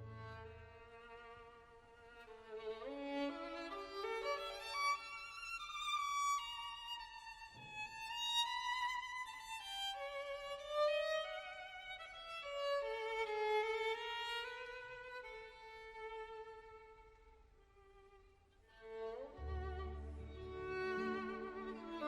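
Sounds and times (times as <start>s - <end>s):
solo violin slow melody: 0.0s - 22.0s.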